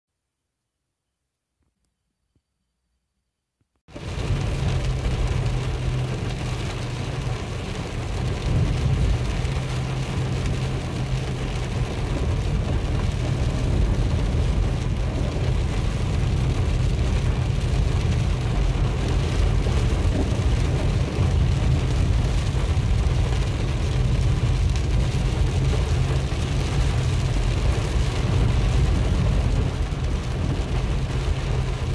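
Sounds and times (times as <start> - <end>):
vehicle engine humming: 3.9 - 31.9
wind and road noise rumbling: 3.9 - 31.9.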